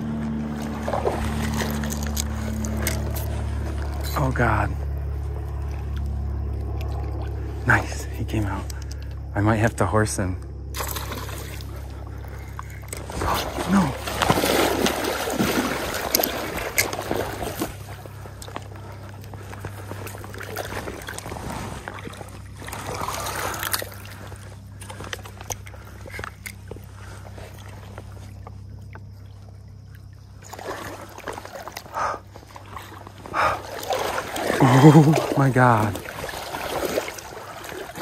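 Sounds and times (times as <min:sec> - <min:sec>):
low hum: 0:00.0 - 0:38.0
river water splashing: 0:00.0 - 0:38.0.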